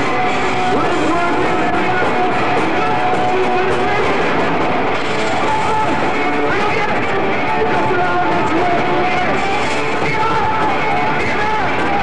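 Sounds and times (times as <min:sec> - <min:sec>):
drum kit: 0:00.0 - 0:12.0
electric guitar: 0:00.0 - 0:12.0.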